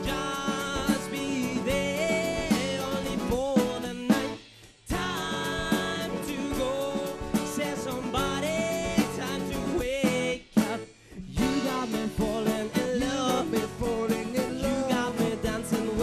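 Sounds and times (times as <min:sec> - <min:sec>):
lead singer singing: 0:00.0 - 0:16.0
live band music: 0:00.0 - 0:16.0.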